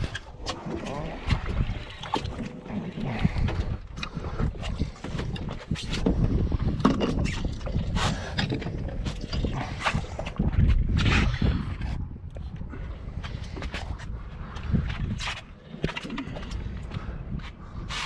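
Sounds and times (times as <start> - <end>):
water lapping against boat hull: 0.0 - 18.0
wind buffeting microphone: 0.0 - 18.0.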